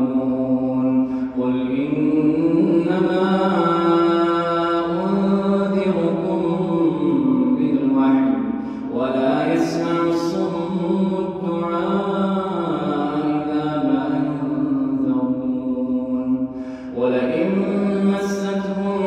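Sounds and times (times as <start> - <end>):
man chanting recitation: 0.0 - 19.0.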